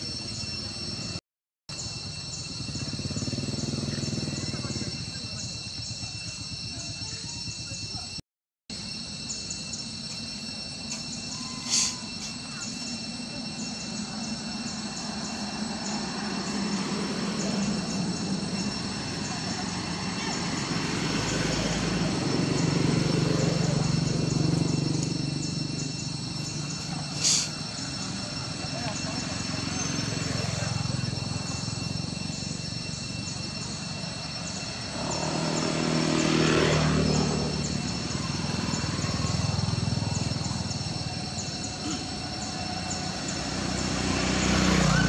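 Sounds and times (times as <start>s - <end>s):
high insect buzz: 8.7s - 45.0s.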